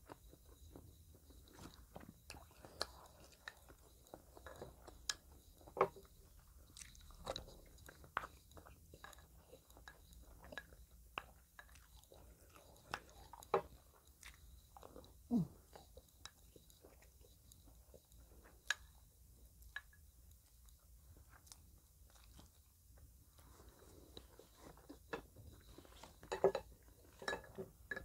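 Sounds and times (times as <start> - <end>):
chewing and mouth clicks: 0.0 - 28.0.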